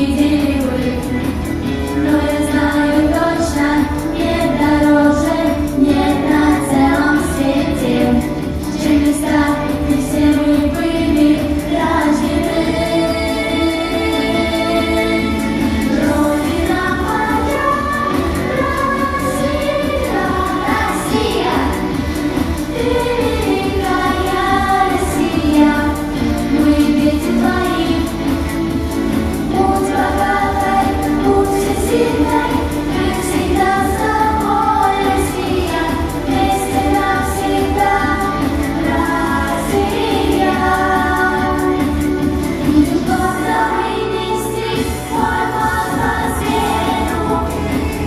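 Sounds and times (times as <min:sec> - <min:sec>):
accompaniment with steady beat: 0:00.0 - 0:43.6, 0:44.6 - 0:48.0
choir singing: 0:00.0 - 0:48.0.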